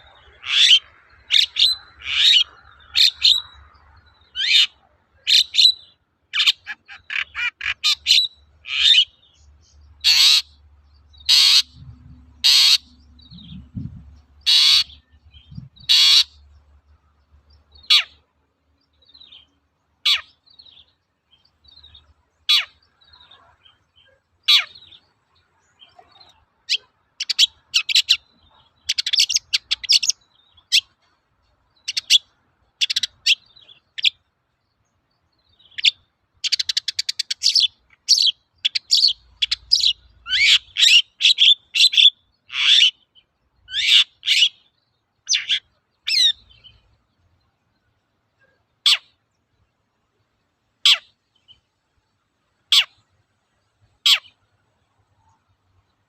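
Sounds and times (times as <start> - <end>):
bird singing and chattering: 0.0 - 31.2, 31.8 - 34.3, 35.4 - 47.0.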